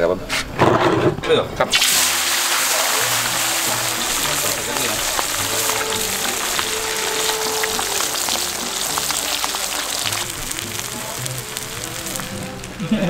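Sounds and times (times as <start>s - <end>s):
fish sizzling in hot oil: 1.7s - 13.0s.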